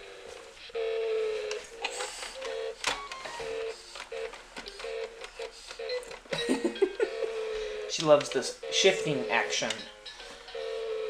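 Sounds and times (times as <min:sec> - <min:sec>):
toy beeping: 0:00.0 - 0:11.0.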